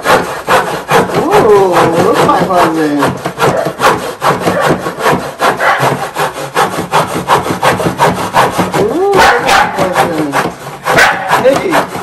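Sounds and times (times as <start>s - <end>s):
handsaw cutting wood: 0.0s - 12.0s.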